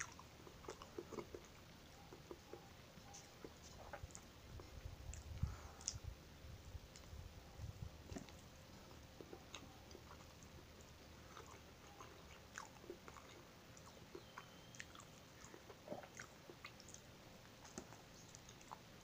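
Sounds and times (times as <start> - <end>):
mouth chewing and smacking: 0.0 - 19.0.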